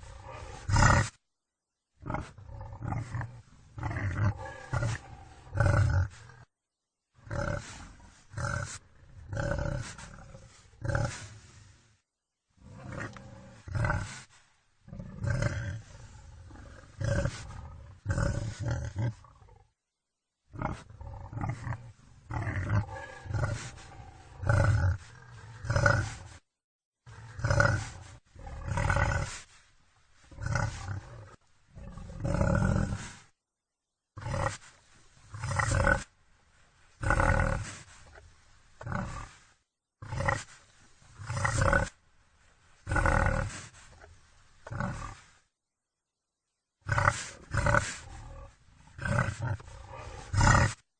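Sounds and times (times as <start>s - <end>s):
wild boar grunting and roaring: 0.0s - 1.2s, 2.0s - 6.5s, 7.2s - 11.7s, 12.6s - 19.8s, 20.5s - 26.4s, 27.1s - 29.6s, 30.2s - 33.3s, 34.2s - 36.2s, 37.0s - 38.2s, 38.8s - 42.0s, 42.8s - 45.4s, 46.8s - 50.8s.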